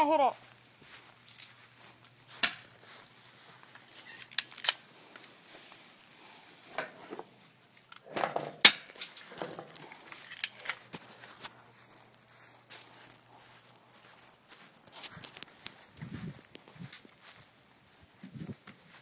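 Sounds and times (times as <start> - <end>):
rustling: 0.4 - 18.0.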